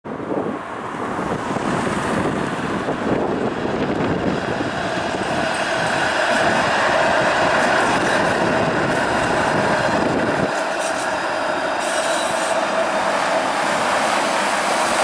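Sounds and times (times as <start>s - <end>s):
streetcar rumbling on rails: 0.1s - 15.0s.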